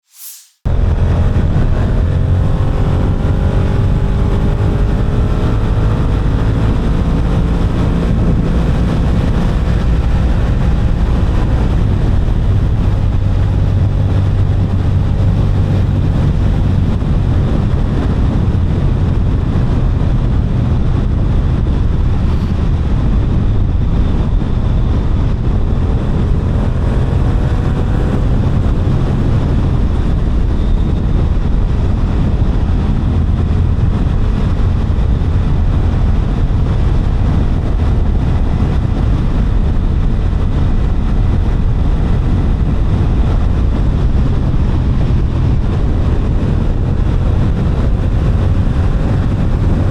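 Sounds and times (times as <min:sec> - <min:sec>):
wind on microphone: 0:00.0 - 0:49.9
motorcycle engine running: 0:00.7 - 0:49.9.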